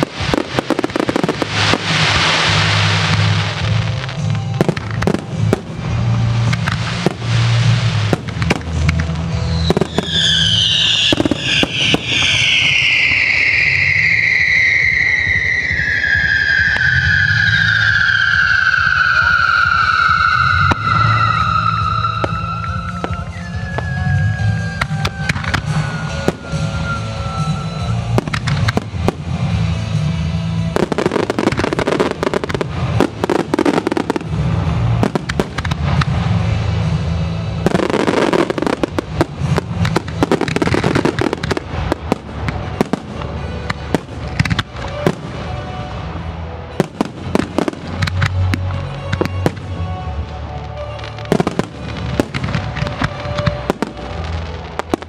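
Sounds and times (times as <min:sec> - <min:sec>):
fireworks shells bursting: 0:00.0 - 0:45.8.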